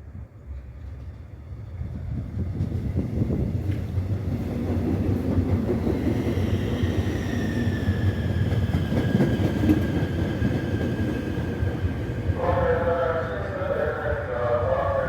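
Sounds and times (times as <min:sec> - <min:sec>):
train wheel and track rumble: 0:00.0 - 0:15.0.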